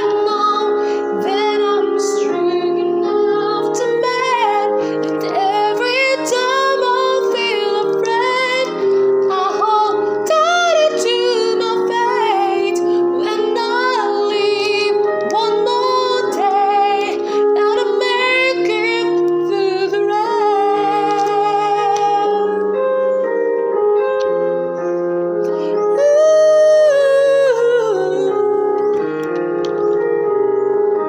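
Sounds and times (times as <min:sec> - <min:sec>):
woman singing with vibrato: 0:00.0 - 0:22.8, 0:25.9 - 0:29.0
sustained keyboard chords: 0:00.0 - 0:31.0.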